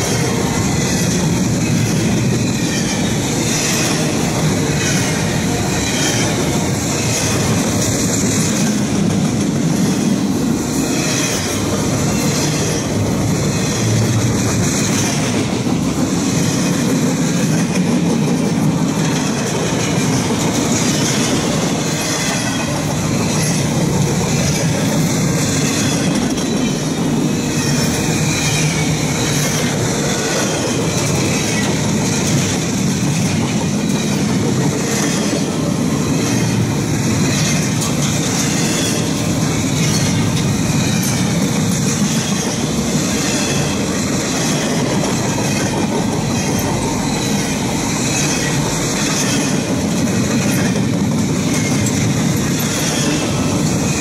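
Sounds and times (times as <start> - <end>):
high clatter of freight cars: 0.0 - 54.0
steel wheels rumbling on rail: 0.0 - 54.0.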